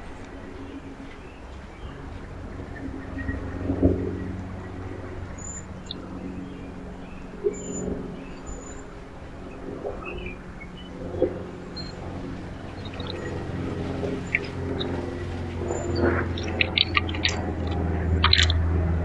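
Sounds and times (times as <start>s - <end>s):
low mechanical hum: 0.0s - 19.0s
songbirds chirping: 0.0s - 19.0s.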